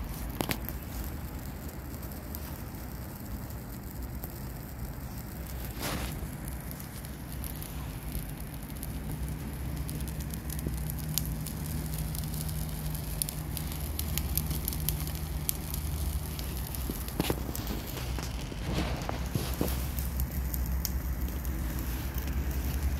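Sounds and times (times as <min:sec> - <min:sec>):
fire crackling and popping: 0:00.0 - 0:22.9
low rush of flame: 0:00.0 - 0:22.9.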